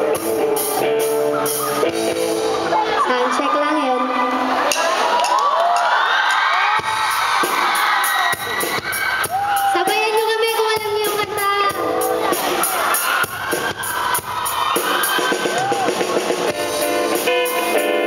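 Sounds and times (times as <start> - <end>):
drum kit: 0.0 - 3.0, 4.6 - 18.0
rock band playing live: 0.0 - 18.0.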